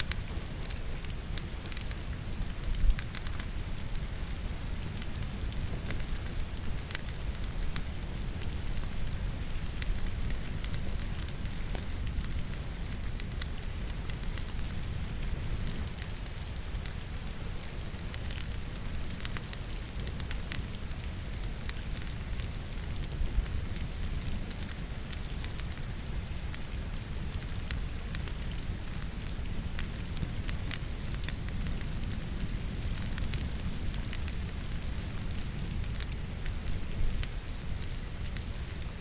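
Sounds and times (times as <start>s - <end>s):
rain hissing: 0.0s - 39.0s
wood fire crackling and popping: 0.0s - 39.0s.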